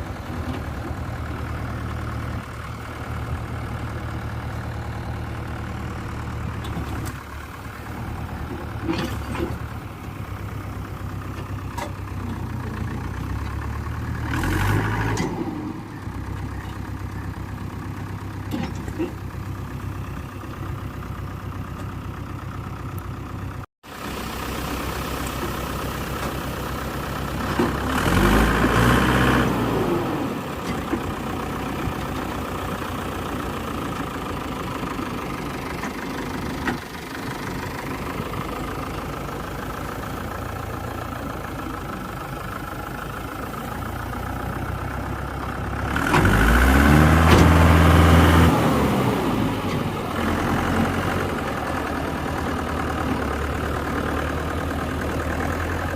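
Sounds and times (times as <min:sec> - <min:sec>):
diesel tractor engine idling and revving: 0:00.0 - 0:55.9.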